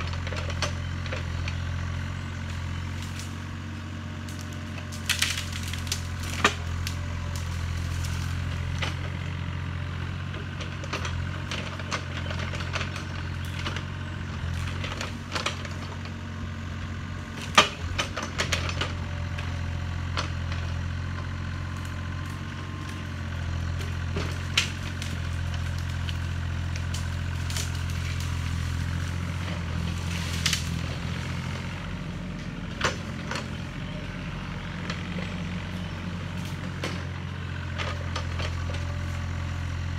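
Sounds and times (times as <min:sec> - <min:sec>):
branches cracking and snapping: 0:00.0 - 0:09.5, 0:10.4 - 0:16.0, 0:17.3 - 0:33.8, 0:34.6 - 0:39.9
excavator diesel engine running: 0:00.0 - 0:39.9.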